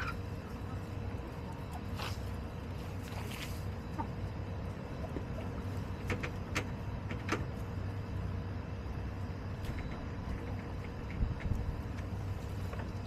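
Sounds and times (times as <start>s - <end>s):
chickens pecking and scratching: 0.0s - 8.1s, 9.5s - 13.0s.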